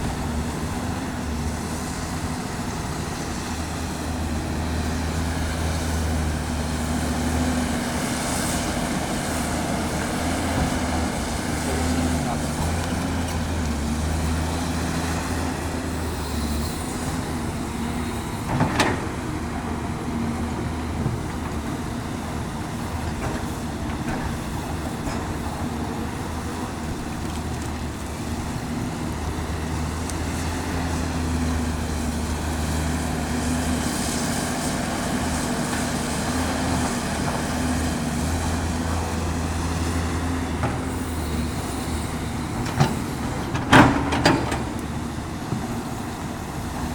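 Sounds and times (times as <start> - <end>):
excavator diesel engine under load: 0.0 - 46.9.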